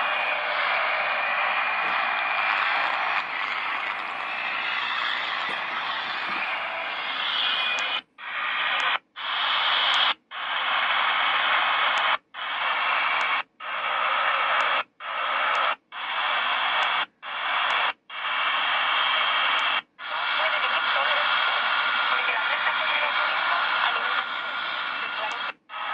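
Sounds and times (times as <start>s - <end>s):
faint radio tones: 0.0s - 25.9s
radio static hiss: 0.0s - 25.9s.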